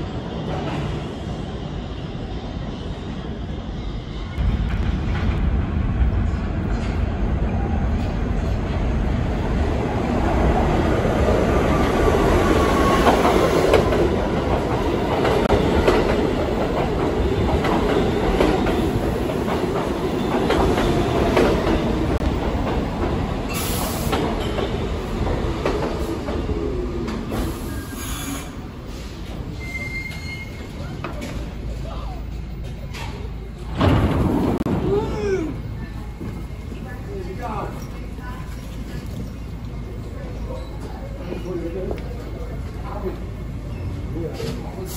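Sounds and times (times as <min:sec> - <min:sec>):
falling whine of train: 0:00.0 - 0:44.9
subway train rumbling: 0:00.0 - 0:44.9.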